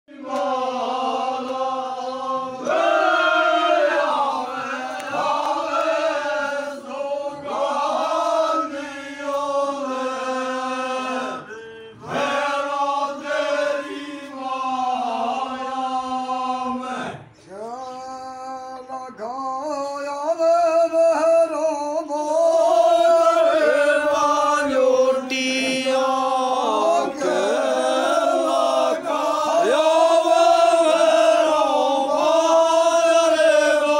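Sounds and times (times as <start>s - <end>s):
men chanting devotional song: 0.1s - 33.9s.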